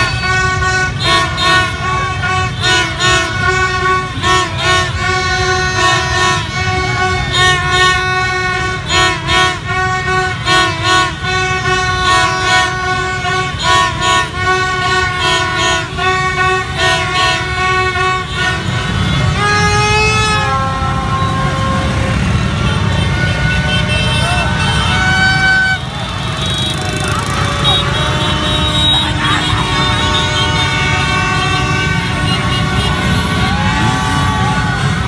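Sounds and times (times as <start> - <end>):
crowd noise: 0.0 - 35.0
motorbike engines: 0.0 - 35.0
plastic fan horns tooting: 0.0 - 35.0.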